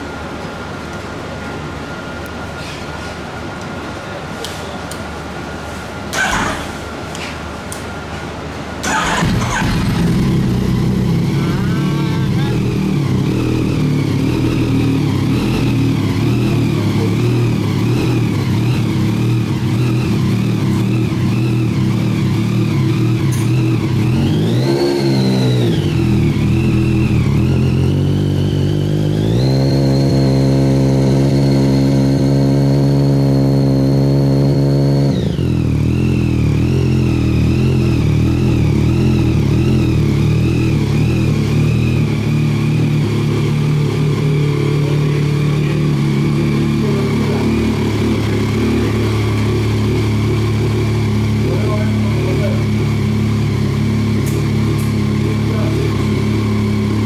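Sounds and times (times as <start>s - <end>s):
motorcycle engine idling and revving: 6.1s - 7.2s, 8.8s - 57.0s.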